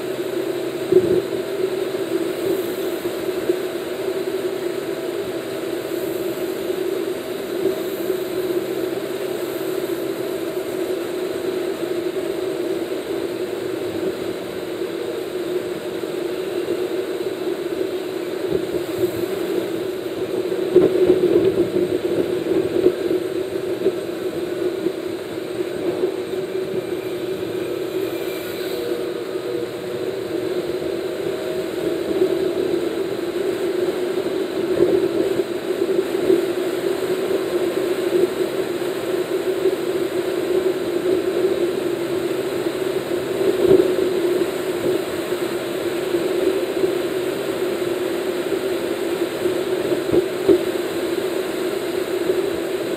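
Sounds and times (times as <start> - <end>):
car road and engine drone: 0.0 - 52.9.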